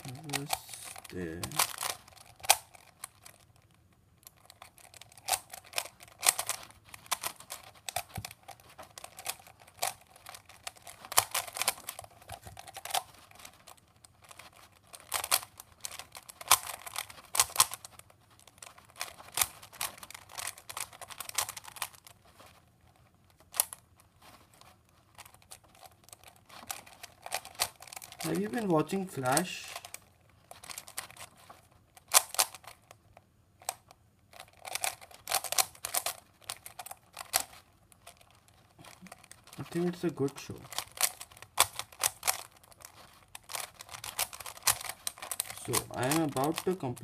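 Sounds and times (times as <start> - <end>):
plastic puzzle cube clicking: 0.0 - 47.0.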